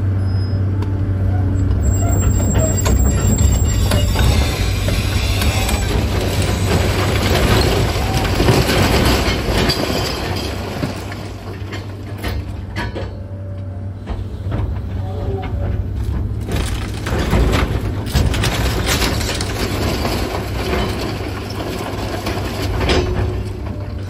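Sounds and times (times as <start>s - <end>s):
excavator engine drone: 0.0s - 24.0s
demolition debris crunching: 2.2s - 13.0s, 14.5s - 24.0s.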